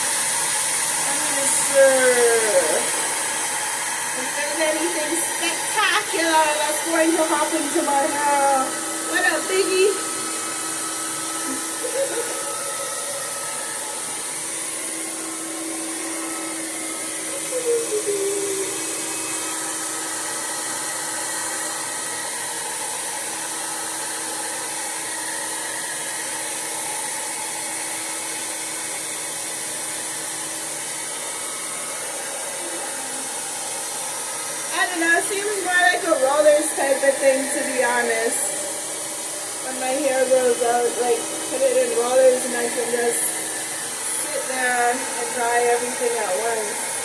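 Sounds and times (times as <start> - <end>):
blow dryer airflow hiss: 0.0 - 47.0.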